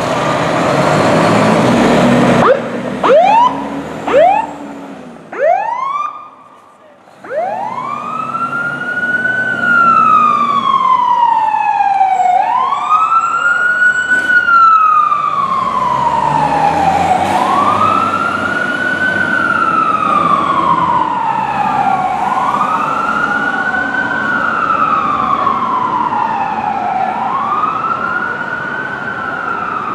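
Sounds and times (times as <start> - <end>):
fire truck siren wailing: 0.0 - 29.9.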